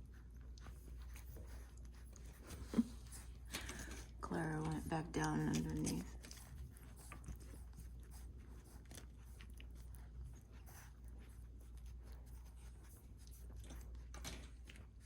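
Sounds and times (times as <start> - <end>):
puppies suckling clicks: 0.0 - 15.0.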